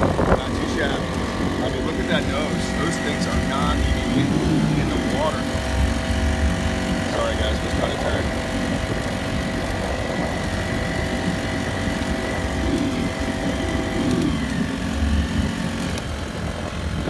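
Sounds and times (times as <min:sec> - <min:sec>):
water rushing: 0:00.0 - 0:15.2
outboard engine running: 0:00.0 - 0:17.0.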